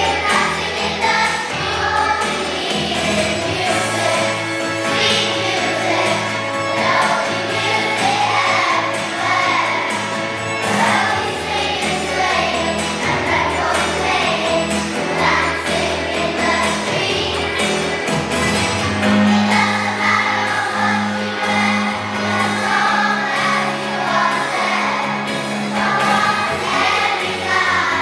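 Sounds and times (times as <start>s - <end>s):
children's choir singing: 0.0s - 28.0s
instrumental backing: 0.0s - 28.0s.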